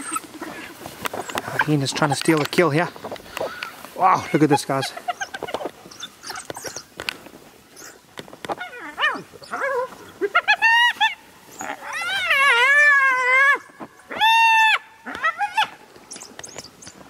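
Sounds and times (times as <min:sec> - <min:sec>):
hyenas squealing and giggling: 0:00.0 - 0:02.5, 0:03.3 - 0:07.0, 0:07.7 - 0:17.0.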